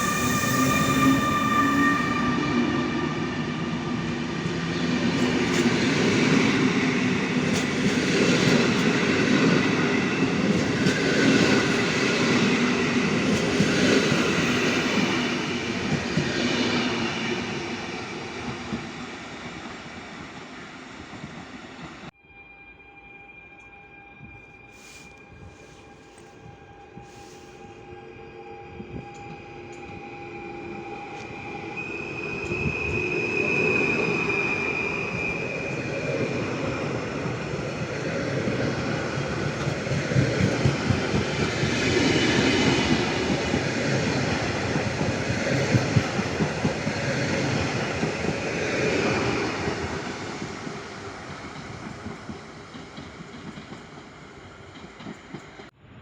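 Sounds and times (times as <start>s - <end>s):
train passing on rails: 0.0s - 56.0s.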